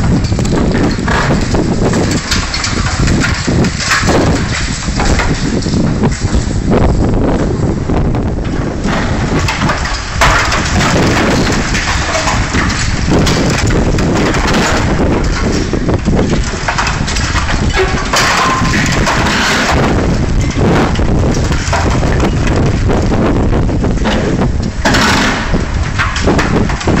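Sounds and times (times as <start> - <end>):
excavator engine and hydraulics straining: 0.0 - 27.0
metal crunching and scraping: 0.0 - 27.0.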